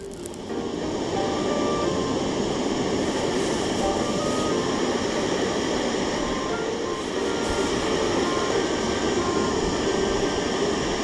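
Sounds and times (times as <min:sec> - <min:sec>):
gas stove hissing: 0:00.0 - 0:11.0.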